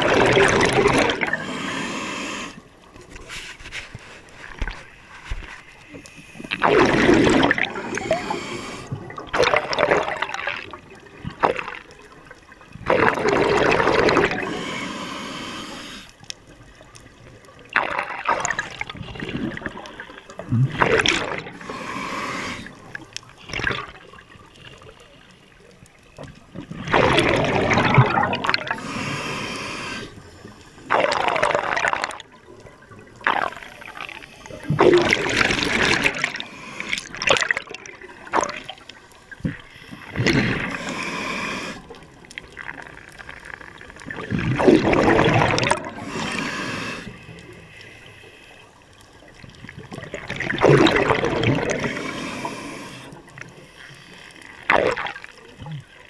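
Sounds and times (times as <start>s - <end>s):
gurgling rush of bubbles: 0.0s - 2.7s, 6.2s - 16.0s, 17.2s - 24.9s, 26.3s - 30.2s, 30.8s - 47.7s, 49.2s - 53.6s, 54.4s - 56.0s.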